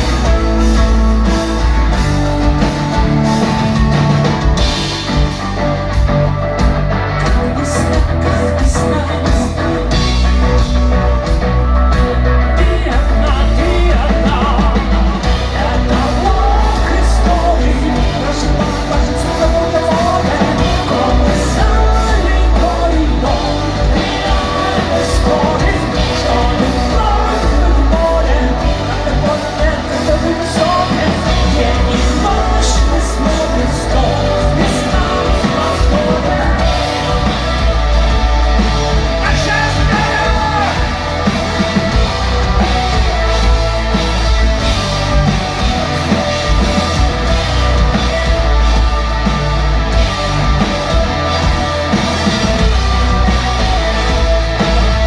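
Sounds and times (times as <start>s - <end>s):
rock band playing: 0.0s - 55.0s
lead vocal singing: 6.6s - 55.0s.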